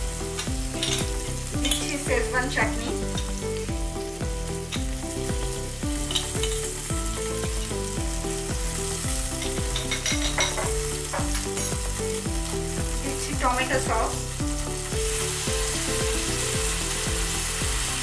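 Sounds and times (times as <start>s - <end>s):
background music with low beat: 0.0s - 18.0s
sauce sizzling in frying pan: 0.0s - 18.0s.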